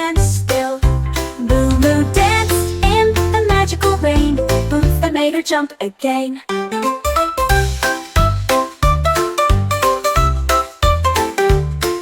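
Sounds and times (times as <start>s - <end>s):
upbeat children's song instrumental: 0.0s - 12.0s.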